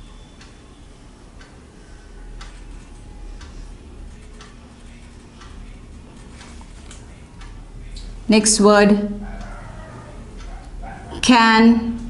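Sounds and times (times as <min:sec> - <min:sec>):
clock ticking: 0:00.0 - 0:12.0
room hum: 0:00.0 - 0:12.0.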